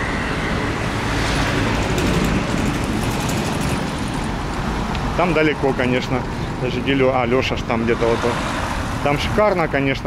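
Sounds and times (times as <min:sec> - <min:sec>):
vehicle passing close by: 0:00.0 - 0:09.4
street traffic: 0:00.0 - 0:10.0.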